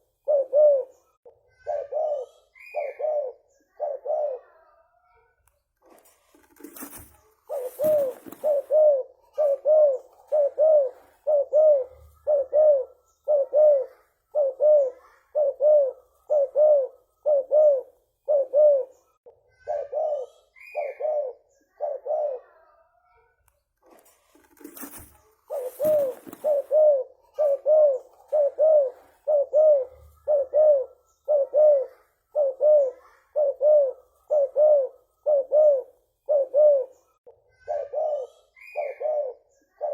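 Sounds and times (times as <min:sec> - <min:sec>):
dove cooing: 0:00.0 - 0:04.8, 0:06.3 - 0:22.8, 0:24.4 - 0:39.9.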